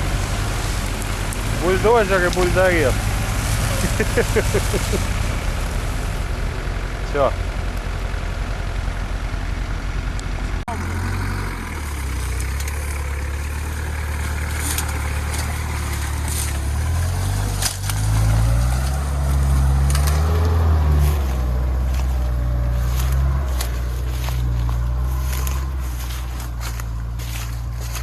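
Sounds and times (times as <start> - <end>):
suv engine revving: 0.0 - 28.0.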